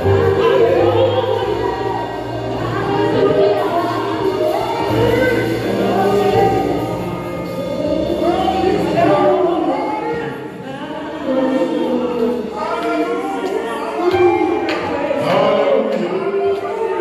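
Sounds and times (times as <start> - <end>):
group singing gospel: 0.0 - 17.0.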